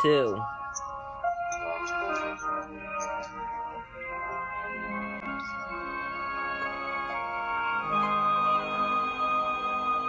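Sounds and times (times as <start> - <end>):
organ-like keyboard chords: 0.0 - 10.0.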